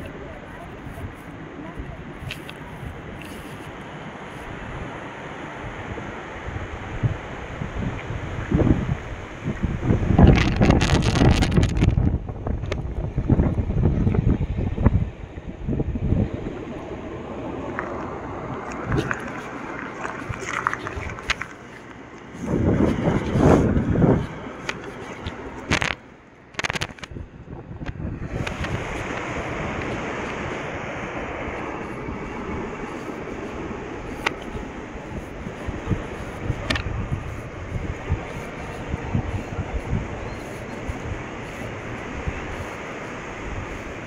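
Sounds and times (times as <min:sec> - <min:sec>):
surf washing onto beach: 0:00.0 - 0:44.0
wind buffeting microphone: 0:00.0 - 0:44.0.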